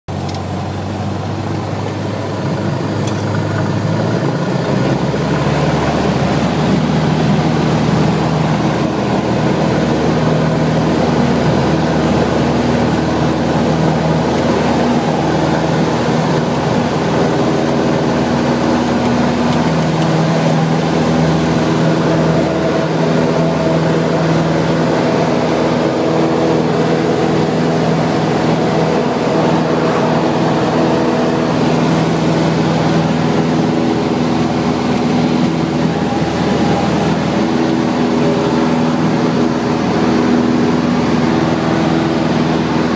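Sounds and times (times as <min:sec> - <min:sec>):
propeller airplane engine: 0:00.1 - 0:42.9.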